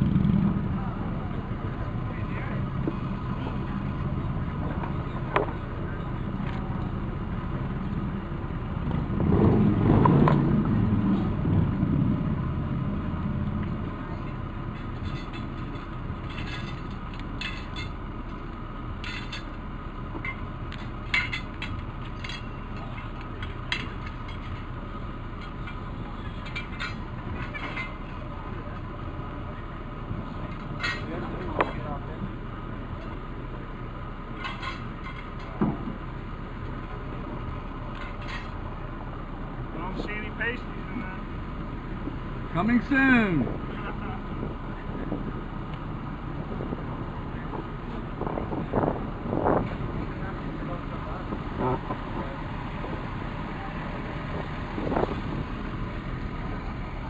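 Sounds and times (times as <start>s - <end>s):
car engine and road noise: 0.0s - 57.0s
louder rumble: 0.0s - 57.0s.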